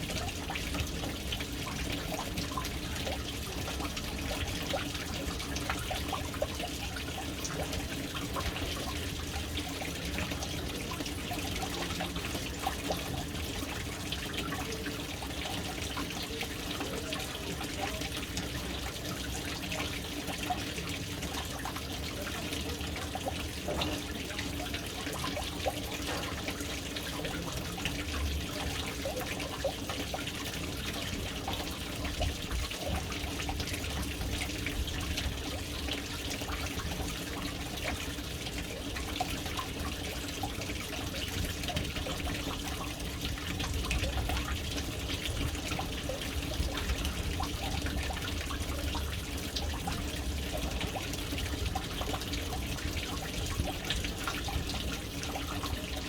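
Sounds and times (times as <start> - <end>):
water splashing into a tank: 0.0 - 56.0.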